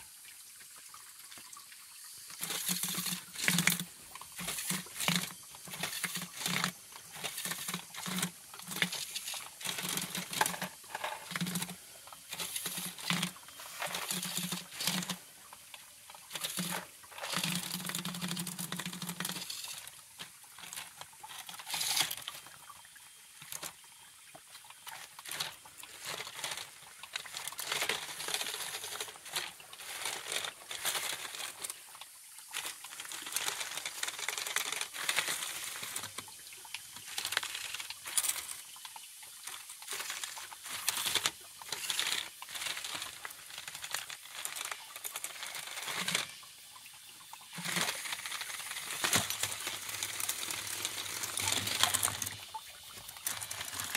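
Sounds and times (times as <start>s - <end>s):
water trickling: 0.0s - 53.9s
plastic wheels clicking on rock: 2.2s - 53.9s.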